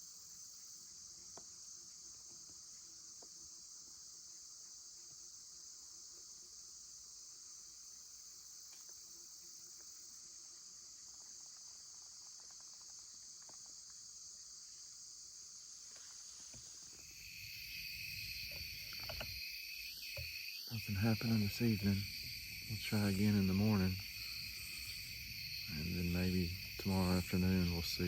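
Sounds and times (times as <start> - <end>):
insect chorus trilling: 0.0 - 28.0
loud insect buzz: 0.0 - 28.0.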